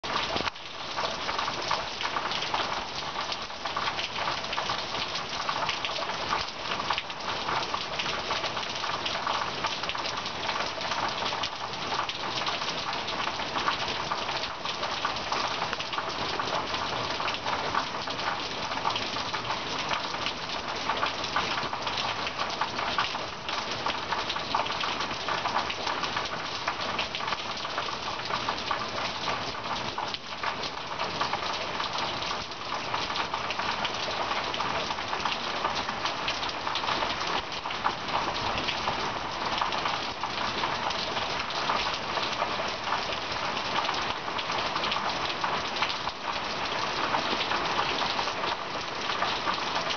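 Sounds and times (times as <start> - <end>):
steady rain patter: 0.0 - 49.9.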